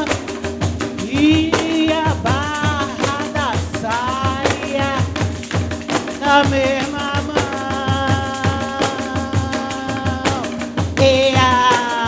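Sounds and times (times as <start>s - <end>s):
frame drums playing a rhythm: 0.0s - 12.0s.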